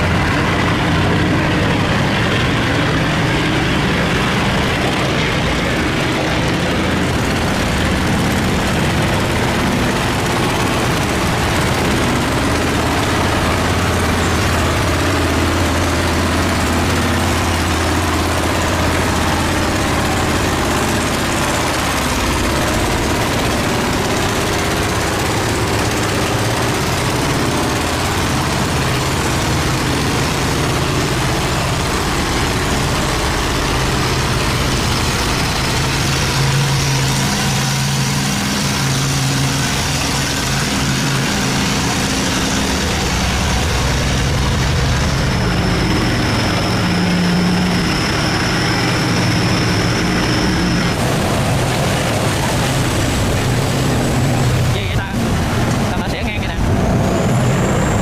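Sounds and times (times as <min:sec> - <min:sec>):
boat engines running: 0:00.0 - 0:58.0
steady rushing noise: 0:00.0 - 0:58.0.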